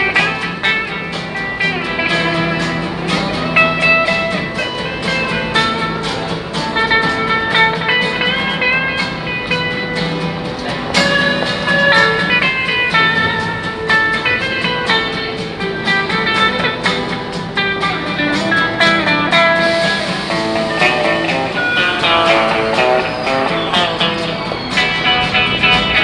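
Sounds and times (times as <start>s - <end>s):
electric guitar through amplifier: 0.0s - 26.0s
strummed acoustic guitar: 0.0s - 26.0s.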